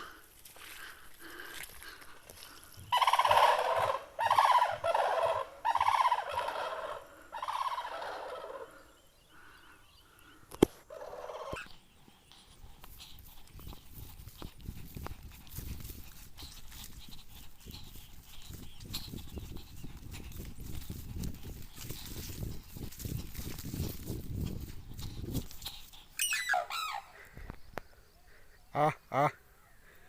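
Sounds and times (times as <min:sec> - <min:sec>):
cranes calling: 0:00.0 - 0:14.6, 0:15.5 - 0:30.0.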